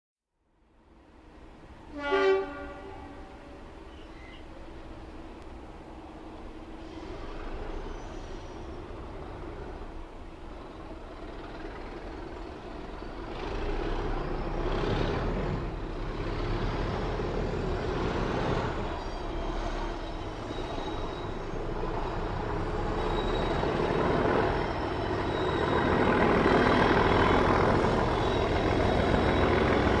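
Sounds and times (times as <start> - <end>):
diesel locomotive engine: 0.5 - 30.0.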